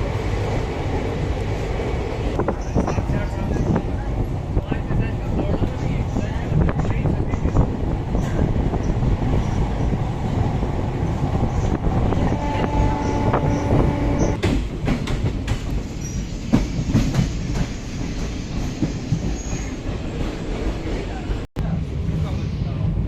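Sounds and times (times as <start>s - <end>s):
moving train rumble: 0.0s - 23.0s.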